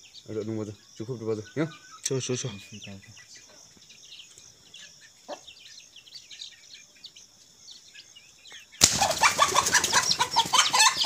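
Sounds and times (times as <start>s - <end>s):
chicks peeping: 0.0s - 11.0s
loud chicken calls and commotion: 0.0s - 11.0s.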